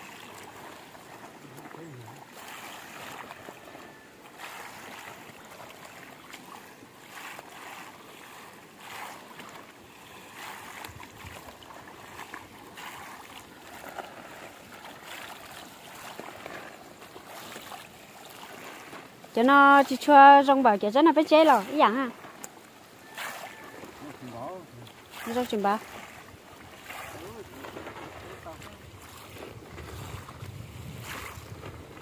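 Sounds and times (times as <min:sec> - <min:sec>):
boots wading through muddy water: 0:00.0 - 0:32.0.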